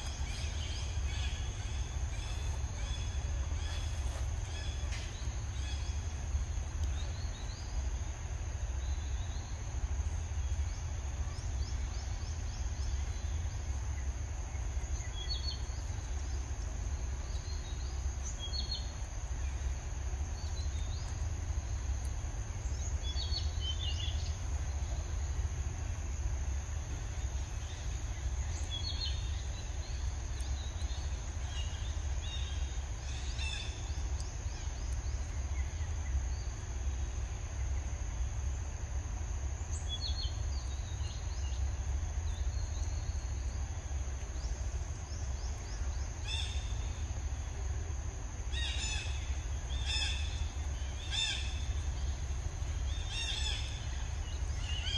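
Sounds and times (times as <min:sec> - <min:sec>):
small birds chirping: 0:00.0 - 0:37.9, 0:48.4 - 0:54.9
high insect drone: 0:00.0 - 0:54.9.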